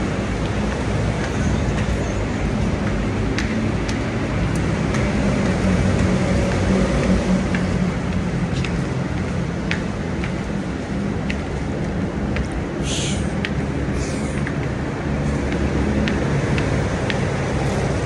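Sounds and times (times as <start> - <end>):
heavy road traffic rumble: 0.0 - 18.0.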